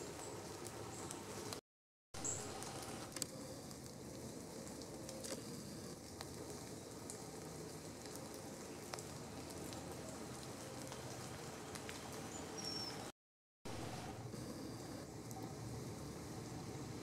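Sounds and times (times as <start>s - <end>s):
outdoor background noise: 0.0s - 1.6s, 2.2s - 13.1s, 13.7s - 17.0s.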